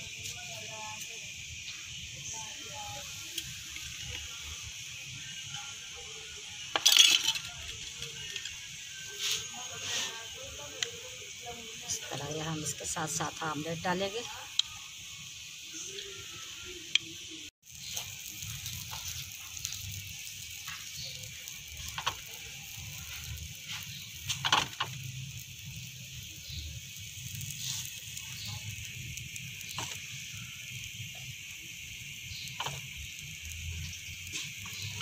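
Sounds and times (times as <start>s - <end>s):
cooking hiss on hot pan: 0.0s - 35.0s.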